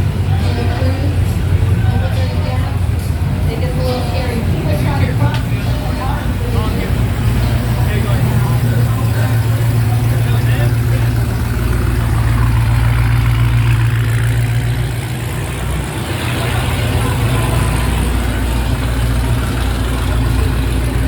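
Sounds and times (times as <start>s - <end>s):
background voices: 0.0s - 21.0s
car engine rumbling: 0.0s - 21.0s.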